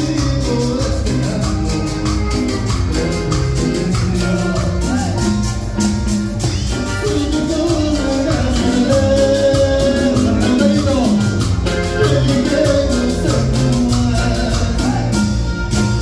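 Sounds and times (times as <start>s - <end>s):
people singing: 0.0s - 5.5s, 6.5s - 15.5s
accordion: 0.0s - 16.0s
live latin dance band: 0.0s - 16.0s.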